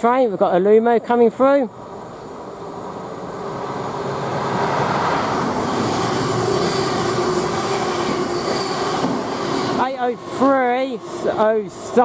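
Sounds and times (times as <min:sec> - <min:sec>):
train passing at speed: 0:01.7 - 0:12.0.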